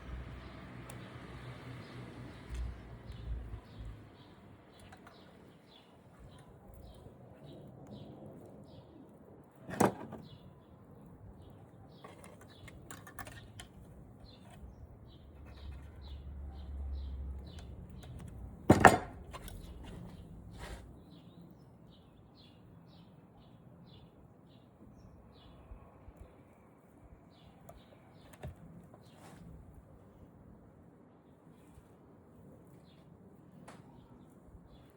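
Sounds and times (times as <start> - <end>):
small birds chirping: 0.0 - 18.6, 19.3 - 30.2, 31.2 - 34.9.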